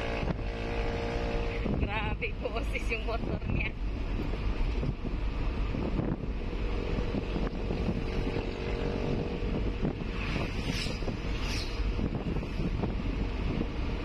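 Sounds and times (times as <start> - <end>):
vehicle engine and road rumble: 0.0 - 14.0
wind noise: 0.0 - 14.0.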